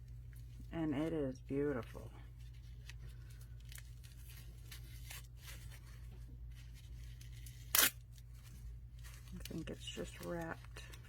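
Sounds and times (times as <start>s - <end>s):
low steady hum: 0.0s - 11.0s
wrapping rustling and crinkling: 0.0s - 11.0s
wrapping tearing: 1.8s - 11.0s.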